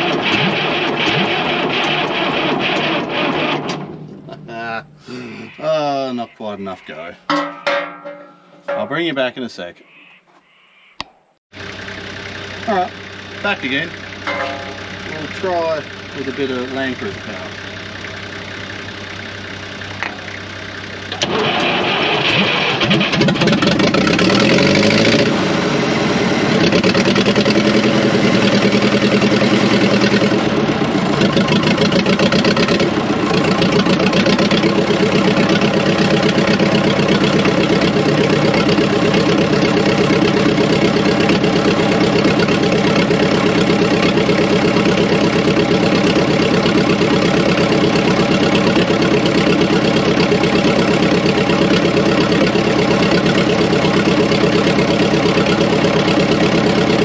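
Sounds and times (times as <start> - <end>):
tractor engine starting and running: 0.0 - 9.6, 11.2 - 57.0.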